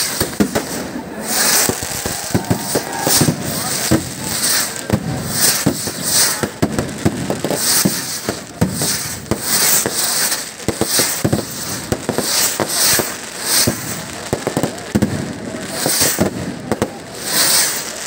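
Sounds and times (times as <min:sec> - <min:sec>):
fireworks cracks and bangs: 0:00.0 - 0:18.0
skyrockets launching with hiss: 0:00.0 - 0:18.0.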